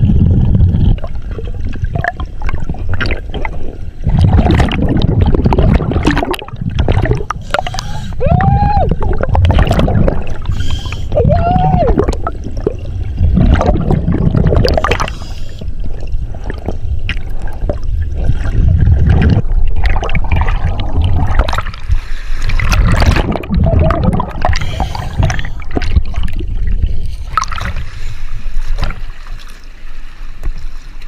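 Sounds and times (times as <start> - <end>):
underwater exhaled bubbles: 0.0 - 30.7.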